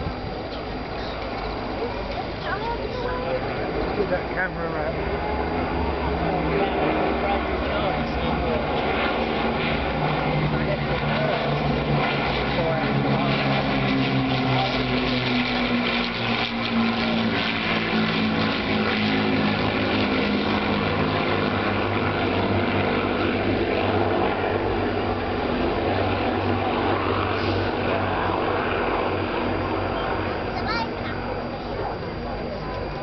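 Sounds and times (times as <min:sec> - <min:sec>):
propeller planes droning overhead: 0:00.0 - 0:33.0.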